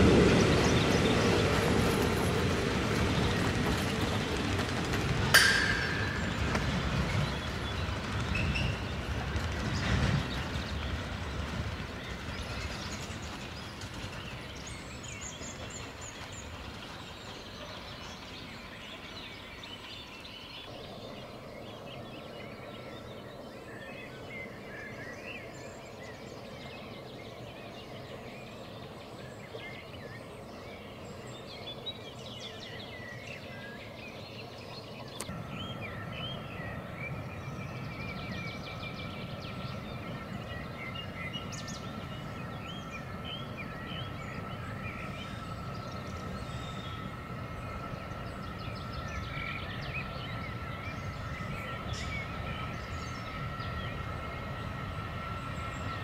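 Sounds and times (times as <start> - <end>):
high train whine: 0.0 - 56.0
songbirds chirping: 0.0 - 56.0
train rumble: 0.0 - 56.0.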